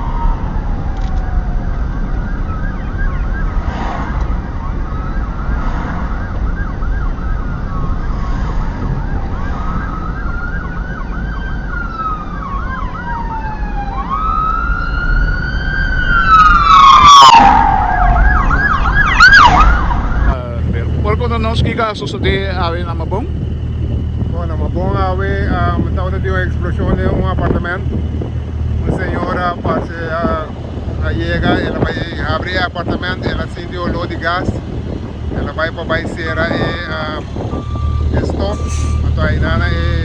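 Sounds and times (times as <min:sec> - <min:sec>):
yelping siren: 0:00.0 - 0:21.4, 0:22.2 - 0:40.0
engine and traffic rumble: 0:00.0 - 0:40.0
wailing siren: 0:00.0 - 0:40.0.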